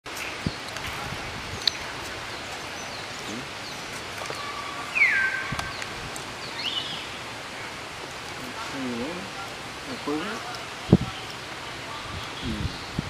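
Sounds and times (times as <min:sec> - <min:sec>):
steady hiss: 0:00.1 - 0:13.0.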